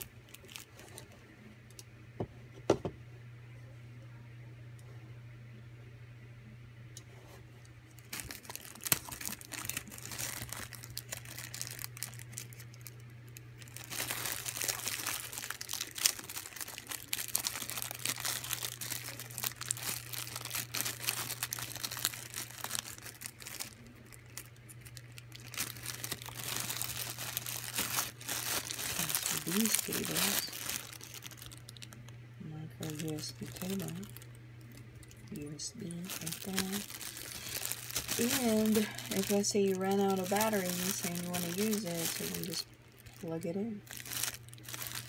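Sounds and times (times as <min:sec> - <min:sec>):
plastic bag crinkling: 0:00.0 - 0:01.2, 0:07.9 - 0:45.0
steady low hum: 0:00.0 - 0:45.0.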